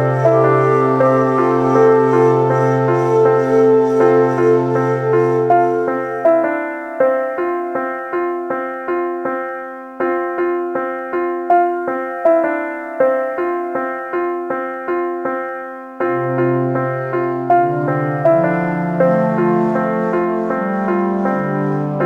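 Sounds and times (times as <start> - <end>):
piano single notes: 0.0 - 22.0.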